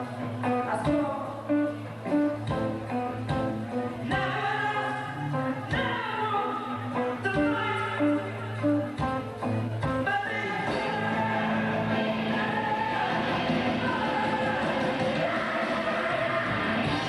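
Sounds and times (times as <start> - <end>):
person singing: 0.0 - 2.4, 4.0 - 9.0, 9.8 - 17.0
guitar: 0.0 - 17.0.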